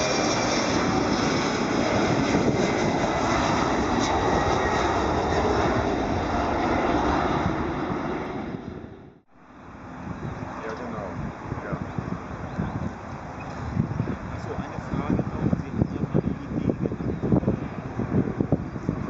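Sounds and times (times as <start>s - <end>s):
jet airliner engines passing: 0.0s - 19.0s
wind buffeting microphone: 0.0s - 19.0s.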